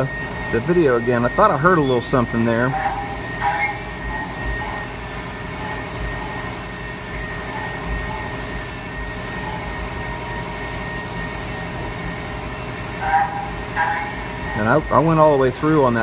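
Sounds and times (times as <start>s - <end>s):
machining center drone: 0.0s - 16.0s.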